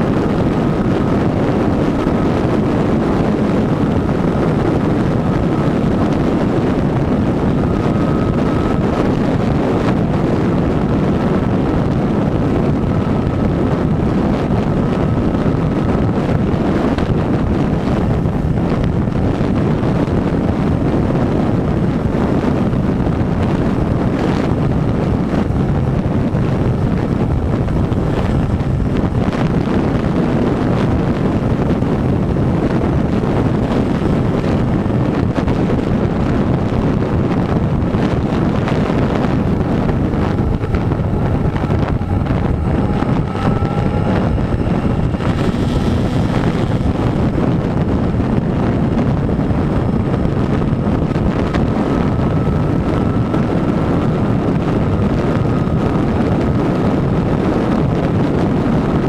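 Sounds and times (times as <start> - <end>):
faint steady whine: 0.0 - 59.0
motorcycle engine: 0.0 - 59.0
wind buffeting microphone: 0.0 - 59.0.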